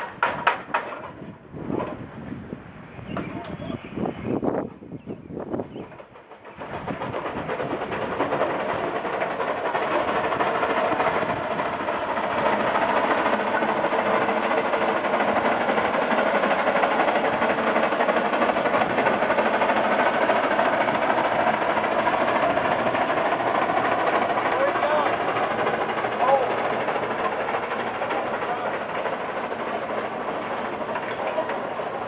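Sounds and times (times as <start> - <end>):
steam engine mechanical clatter: 0.0 - 2.0, 5.4 - 32.0
steam hissing: 6.3 - 32.0.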